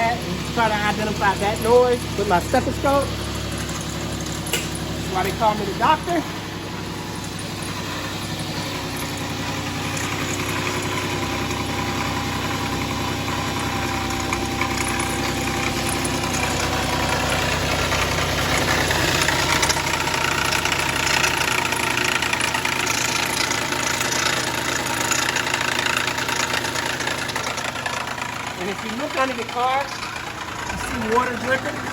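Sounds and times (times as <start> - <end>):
car engine running rough: 0.0 - 31.9
harsh high grinding noise: 0.0 - 31.9.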